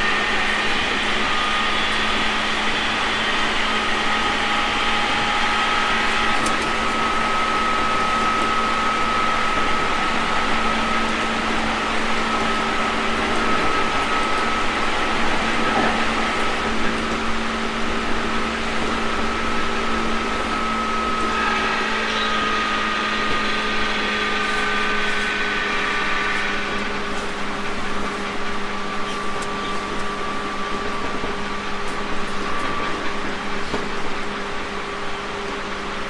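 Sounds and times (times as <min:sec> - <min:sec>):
traction motor whine: 0:00.0 - 0:36.0
train track rumble: 0:00.0 - 0:36.0.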